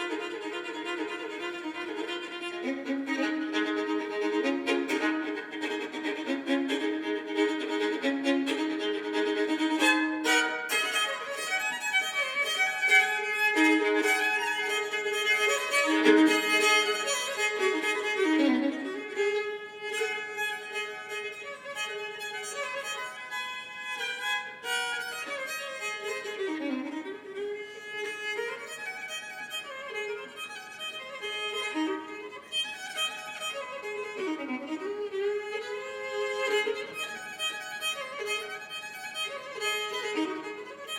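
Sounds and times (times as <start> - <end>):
solo fiddle with drone strings: 0.0 - 40.9.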